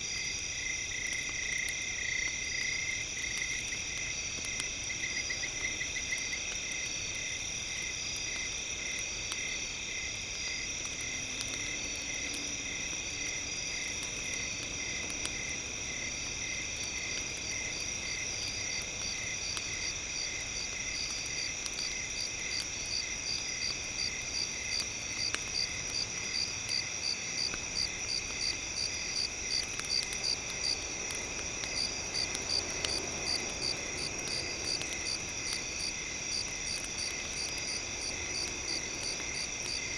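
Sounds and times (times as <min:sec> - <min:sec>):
campfire crackling: 0:00.0 - 0:39.9
insects chirping: 0:00.0 - 0:39.9.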